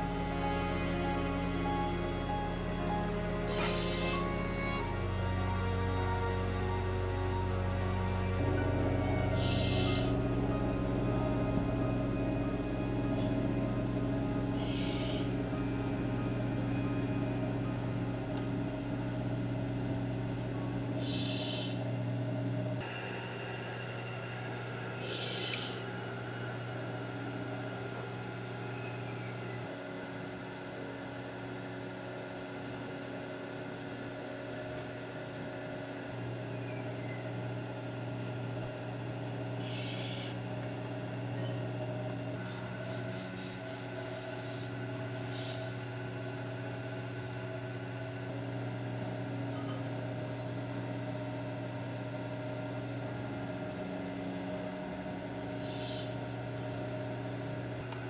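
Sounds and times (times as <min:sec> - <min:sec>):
potter's wheel humming: 0:00.0 - 0:58.0.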